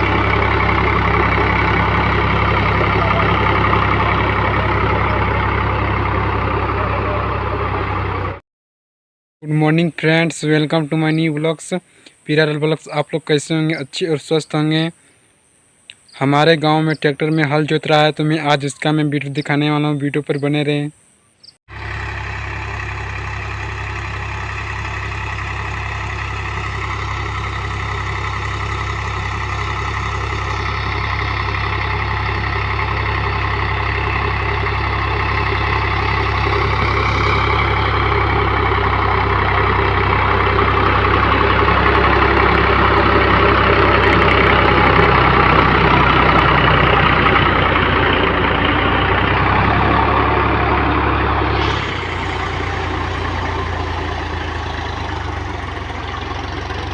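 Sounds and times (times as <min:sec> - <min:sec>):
tractor diesel engine running: 0:00.0 - 0:08.4, 0:09.4 - 0:14.9, 0:16.2 - 0:20.3, 0:21.7 - 0:56.9.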